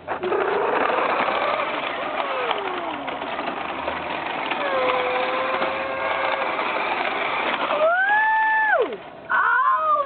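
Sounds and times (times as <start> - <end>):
remote control car motor whining: 0.1 - 8.9.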